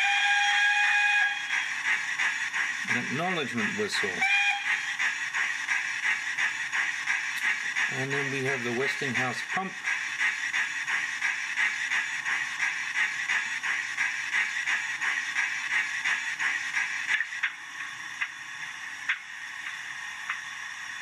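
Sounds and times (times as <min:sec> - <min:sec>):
model locomotive air pump pulsing: 0:00.0 - 0:21.0.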